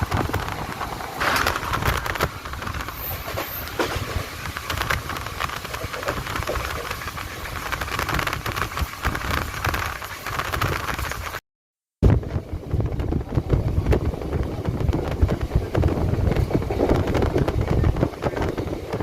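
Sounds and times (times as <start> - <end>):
train rumbling along track: 0.0 - 11.4, 12.0 - 19.0
wheels clicking and rattling: 0.0 - 11.4, 12.2 - 19.0.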